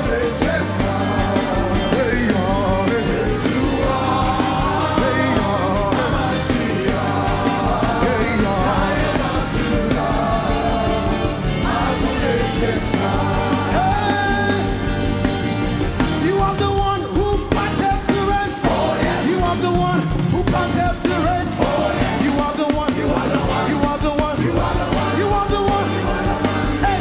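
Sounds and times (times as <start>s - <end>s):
voices singing and calling out: 0.0s - 15.0s, 16.2s - 27.0s
band playing gospel music: 0.0s - 27.0s.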